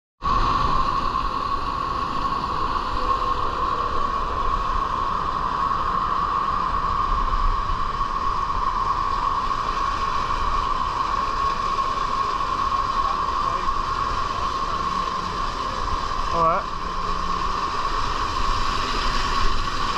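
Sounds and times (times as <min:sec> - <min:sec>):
water gushing and spraying: 0:00.3 - 0:19.9.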